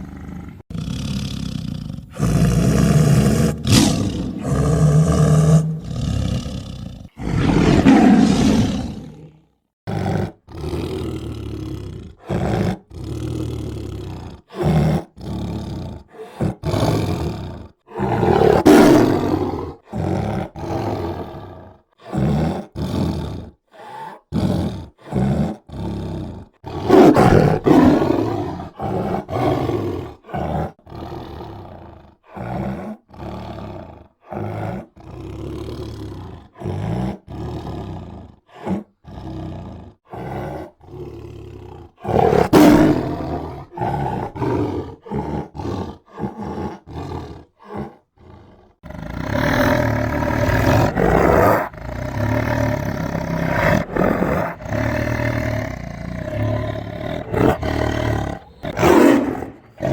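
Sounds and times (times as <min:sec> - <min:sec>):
tiger growling: 0:00.0 - 0:59.9
tiger roaring: 0:00.0 - 0:59.9.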